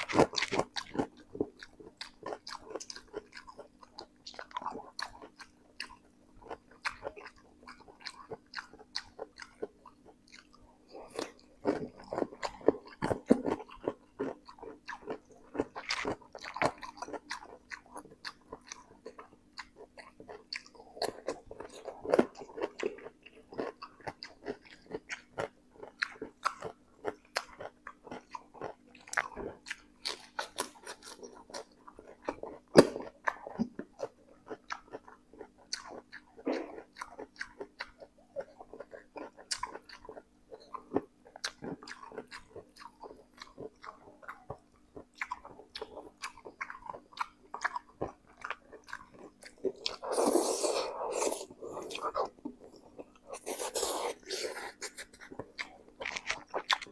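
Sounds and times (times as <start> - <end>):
faint steady hum: 0.0 - 56.9
person chewing crunchy food: 0.0 - 56.9.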